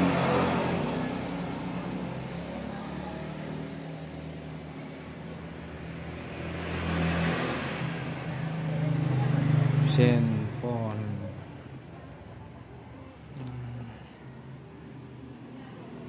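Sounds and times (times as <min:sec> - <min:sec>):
background noise: 0:00.0 - 0:16.0.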